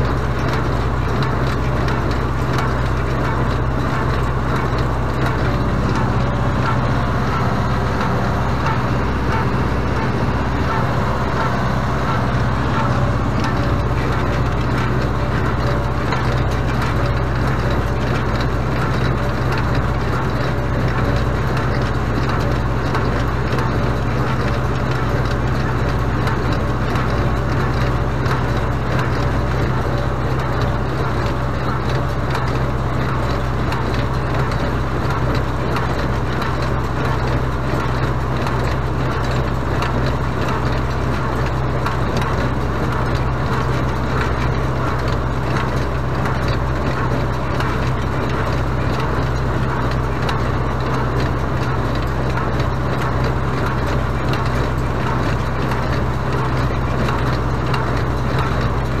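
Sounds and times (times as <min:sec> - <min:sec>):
baler clattering and crunching: 0:00.0 - 0:59.0
tractor engine running under load: 0:00.0 - 0:59.0.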